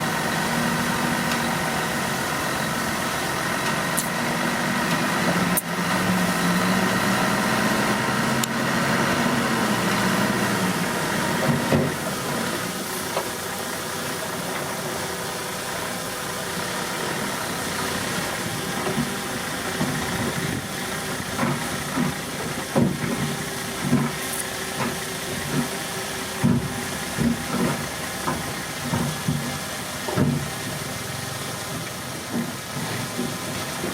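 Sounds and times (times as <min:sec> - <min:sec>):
heavy diesel machinery running: 0:00.0 - 0:33.9.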